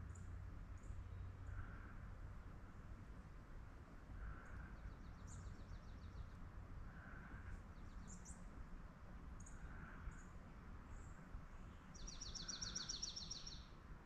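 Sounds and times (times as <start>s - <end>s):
faint birds chirping: 0.0s - 2.8s, 3.7s - 14.0s
steady low background rumble: 0.0s - 14.0s.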